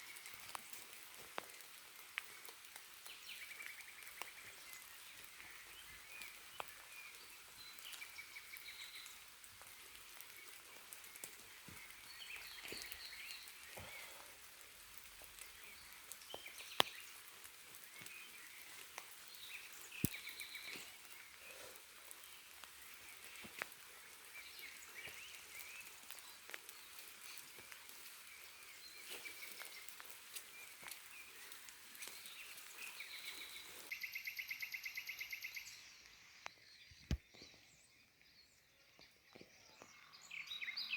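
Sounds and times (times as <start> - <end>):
rain hissing: 0.0 - 33.9
drips ticking on leaves: 0.0 - 37.5.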